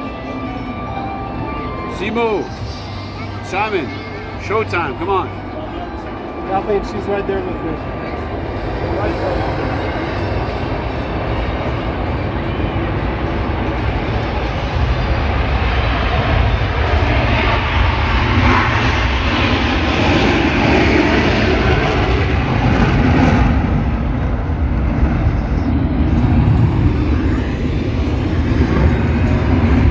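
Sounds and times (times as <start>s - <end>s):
jet engines roaring on takeoff: 0.0s - 29.9s.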